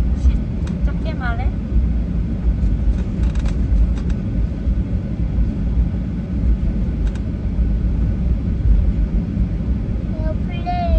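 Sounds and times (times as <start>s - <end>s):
airliner cabin rumble: 0.0s - 10.9s.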